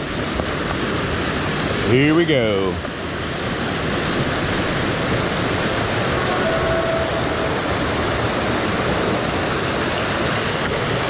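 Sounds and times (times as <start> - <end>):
bike wading through water: 0.0 - 11.0
rushing stream water: 0.0 - 11.0.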